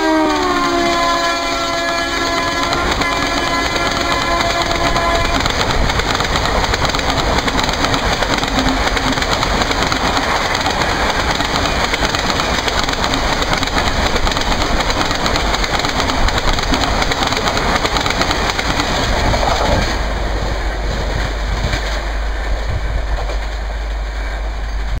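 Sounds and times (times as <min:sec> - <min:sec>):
passenger train rushing past: 0:00.0 - 0:25.0
wheels clacking over rail joints: 0:02.0 - 0:25.0.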